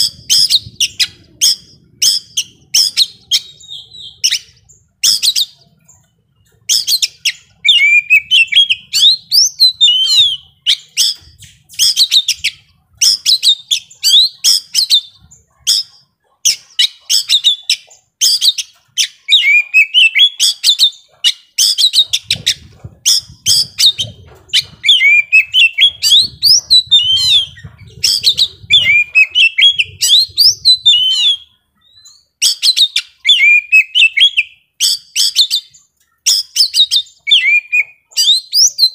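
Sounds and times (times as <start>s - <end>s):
songbird singing loudly: 0.0s - 38.9s.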